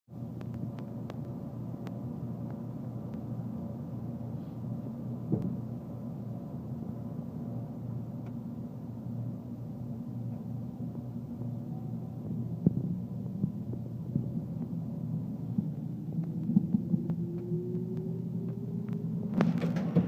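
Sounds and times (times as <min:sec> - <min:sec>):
electric train rumble and hum: 0:00.1 - 0:20.0.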